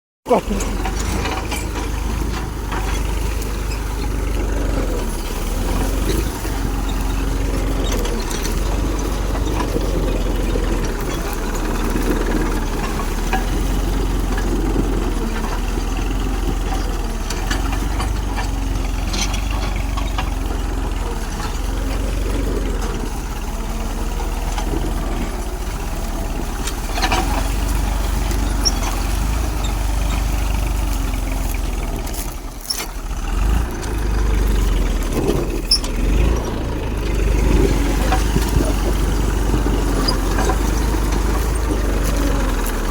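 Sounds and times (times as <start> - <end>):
diesel tractor engine running: 0.2 - 42.9.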